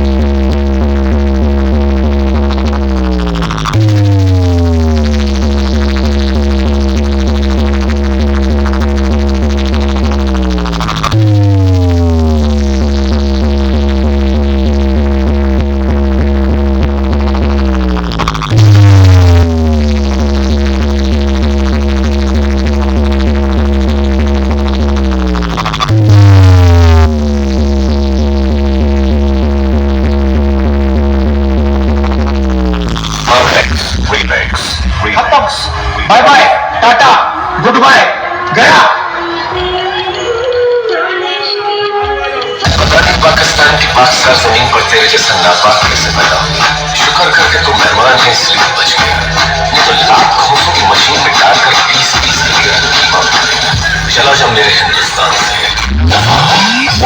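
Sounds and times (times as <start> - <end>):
loud bass hit: 0.0 - 36.8, 42.7 - 51.3, 52.2 - 57.0
electronic dance music: 0.0 - 57.0.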